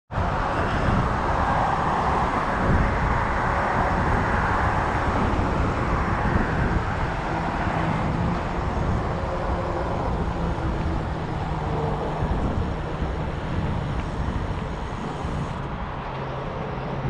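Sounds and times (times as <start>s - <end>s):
car traffic rushing: 0.1s - 17.0s
wind buffeting microphone: 0.1s - 17.0s.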